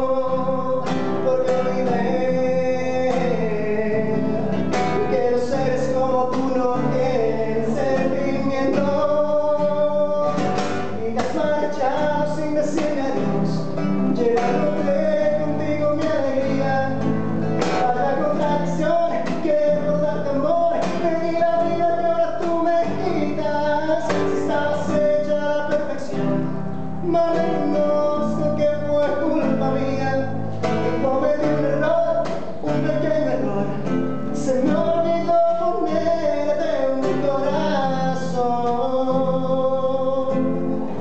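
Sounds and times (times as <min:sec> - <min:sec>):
classical guitar strumming: 0:00.0 - 0:41.0
man singing: 0:00.0 - 0:41.0.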